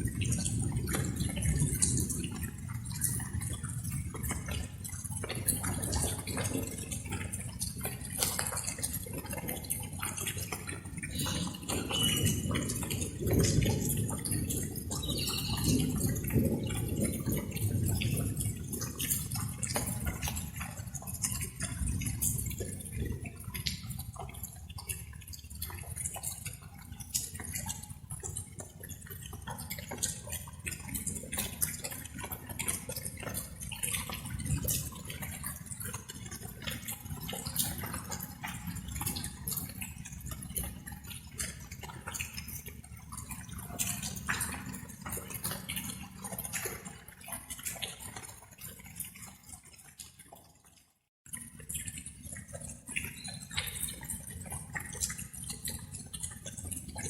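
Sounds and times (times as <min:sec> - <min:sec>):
raindrops ticking: 0:00.0 - 0:57.0.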